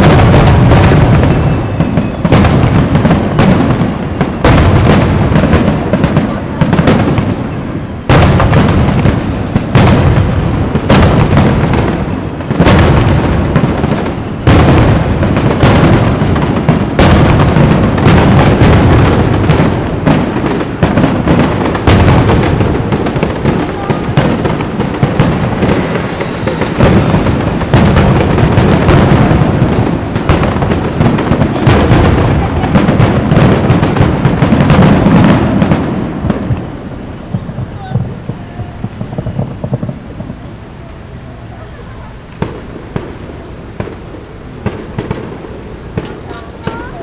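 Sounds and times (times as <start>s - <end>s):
fireworks booming and crackling: 0.0s - 47.0s.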